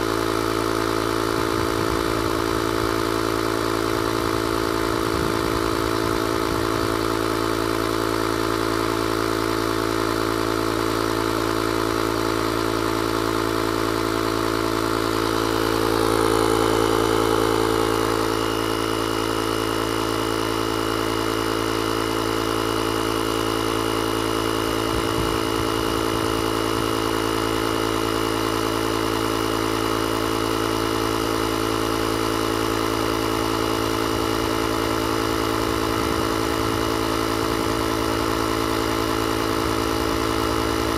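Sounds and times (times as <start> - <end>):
air compressor motor hum: 0.0 - 40.9.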